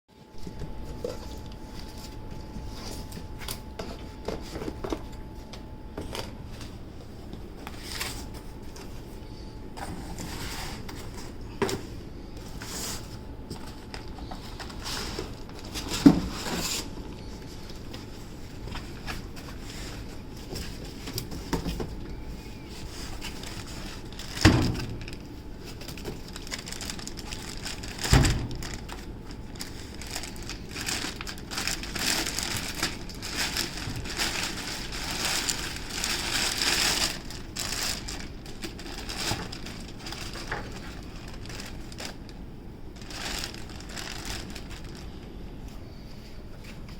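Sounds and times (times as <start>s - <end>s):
cardboard packaging rustling: 0.6s - 45.4s.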